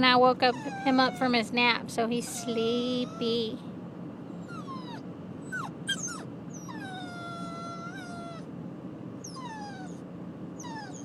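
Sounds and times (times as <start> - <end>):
puppy whining: 0.0 - 3.6, 4.3 - 8.5, 9.2 - 11.0.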